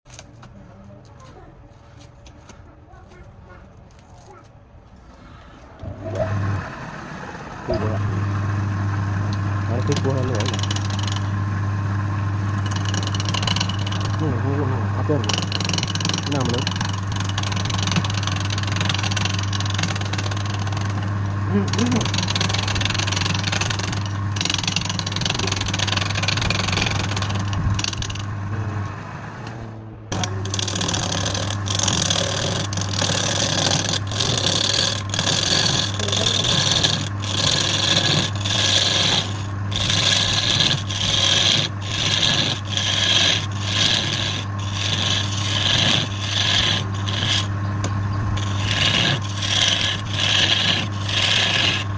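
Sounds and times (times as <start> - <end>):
wood lathe humming: 5.8 - 51.9
tool scraping spinning wood: 7.6 - 8.5, 9.1 - 51.9.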